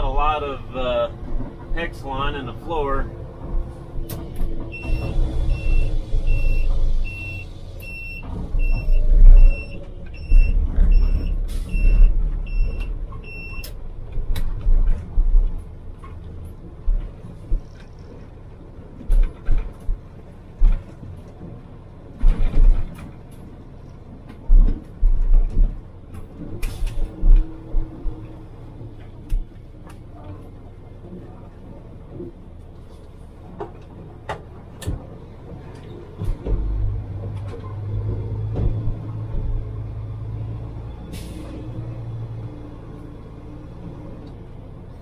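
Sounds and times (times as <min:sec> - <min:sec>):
truck thumping and rattling: 0:03.0 - 0:30.1, 0:33.4 - 0:44.8.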